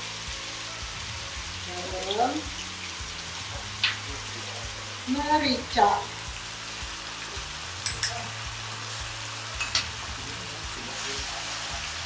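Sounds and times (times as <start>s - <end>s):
sauce sizzling in wok: 0.0s - 12.0s.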